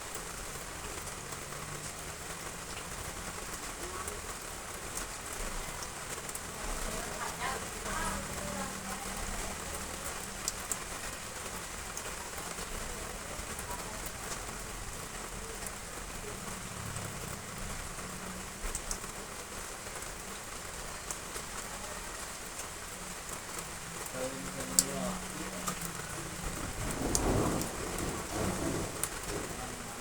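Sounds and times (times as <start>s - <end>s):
heavy rain falling: 0.0s - 30.0s
raindrops ticking close by: 0.0s - 30.0s.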